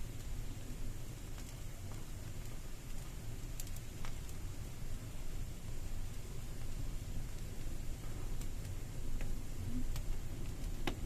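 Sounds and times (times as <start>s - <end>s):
campfire flames rushing: 0.0s - 11.0s
fire crackling pops: 0.0s - 11.0s.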